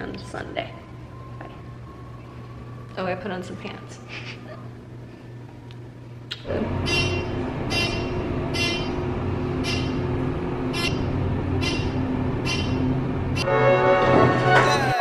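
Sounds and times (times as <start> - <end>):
elevator mechanical hum: 0.0 - 15.0.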